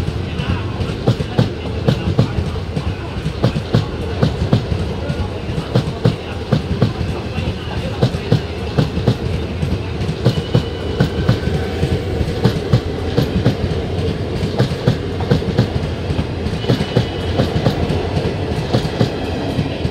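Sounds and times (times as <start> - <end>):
train rumble: 0.0 - 19.9
train wheels clattering: 0.0 - 19.9.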